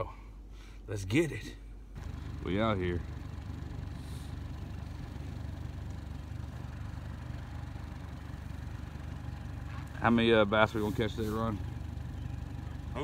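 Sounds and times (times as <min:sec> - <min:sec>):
outboard motor idling: 0:02.0 - 0:13.0.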